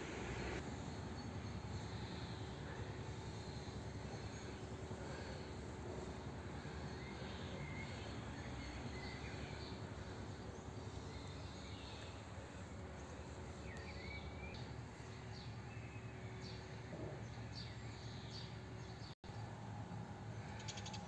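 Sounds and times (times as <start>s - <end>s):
birds singing faintly: 0.1s - 21.0s.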